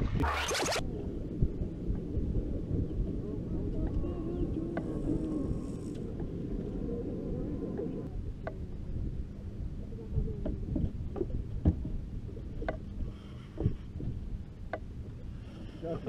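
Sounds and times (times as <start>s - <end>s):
rumble of water and air: 0.0s - 16.0s.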